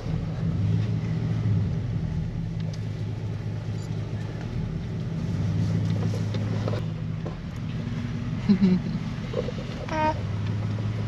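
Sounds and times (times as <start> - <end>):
car engine hum: 0.0 - 11.0
road noise on dirt road: 0.0 - 11.0.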